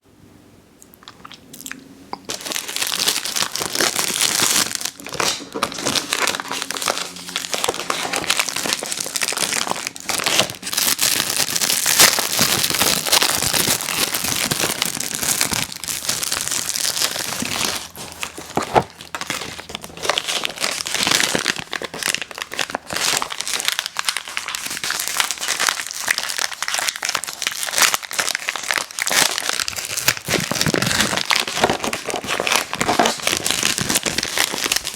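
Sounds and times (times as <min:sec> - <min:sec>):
plastic wrappers crinkling and tearing: 0:02.3 - 0:34.9.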